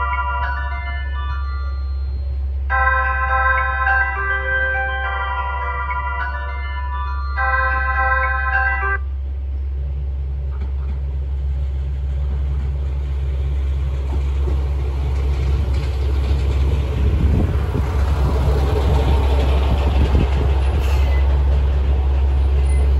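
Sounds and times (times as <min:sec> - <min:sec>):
train engine and wheel rumble: 0:00.0 - 0:22.9.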